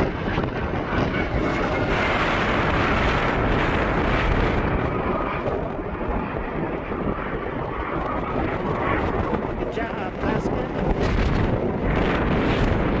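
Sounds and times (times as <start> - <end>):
aircraft engine noise: 0.0 - 13.0
wind buffeting microphone: 0.0 - 13.0.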